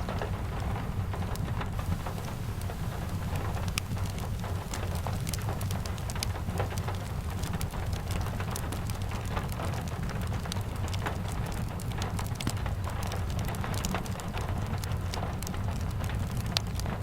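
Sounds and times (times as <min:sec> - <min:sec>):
steady rain falling: 0:00.0 - 0:17.0
sharp little ticks and pops: 0:01.3 - 0:17.0.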